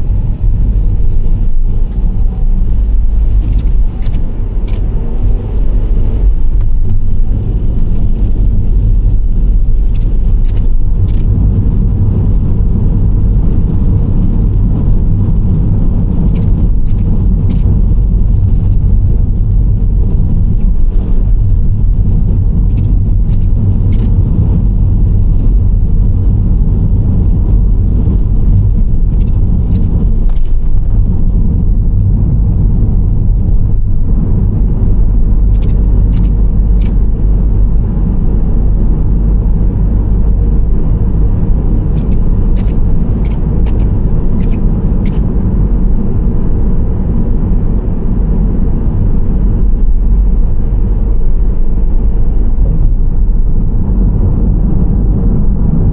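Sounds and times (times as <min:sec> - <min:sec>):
minivan road rumble: 0:00.0 - 0:55.9.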